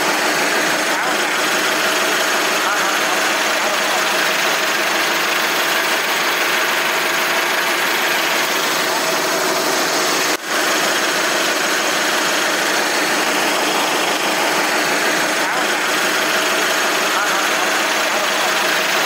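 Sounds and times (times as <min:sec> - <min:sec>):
factory machinery running: 0:00.0 - 0:19.0.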